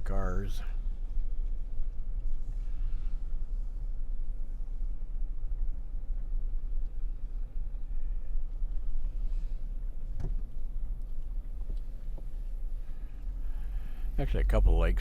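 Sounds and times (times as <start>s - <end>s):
vehicle driving rumble: 0.0s - 15.0s.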